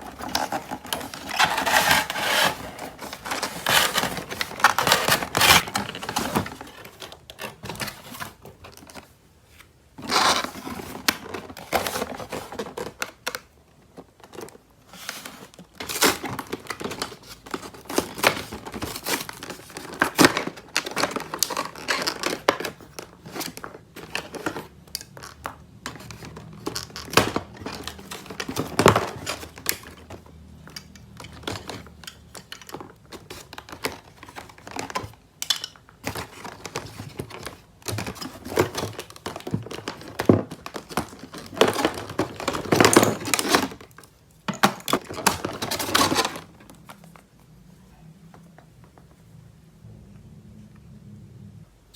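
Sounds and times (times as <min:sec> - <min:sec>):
packaging crinkling and tearing: 0:00.0 - 0:09.1, 0:10.0 - 0:35.2, 0:36.0 - 0:47.2.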